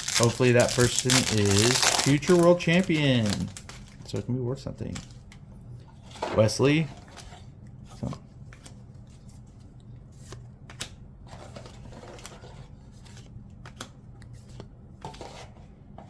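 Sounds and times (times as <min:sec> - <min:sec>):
trading cards clicking and rustling: 0:00.0 - 0:05.4, 0:06.4 - 0:07.4, 0:08.0 - 0:15.4.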